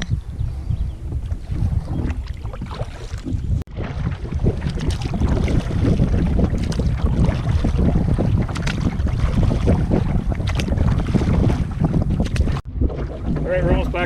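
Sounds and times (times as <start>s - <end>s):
wind buffeting microphone: 0.0s - 14.0s
water splashing around canoe: 1.1s - 14.0s.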